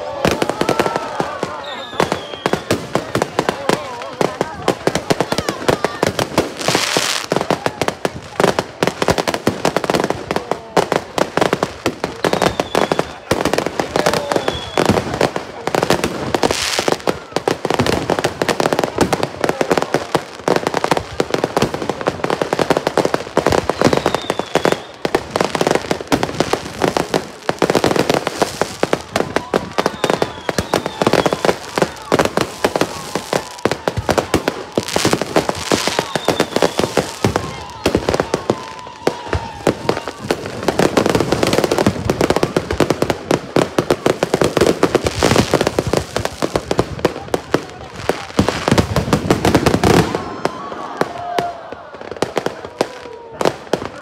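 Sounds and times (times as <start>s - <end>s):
fireworks barrage: 0.0s - 54.0s.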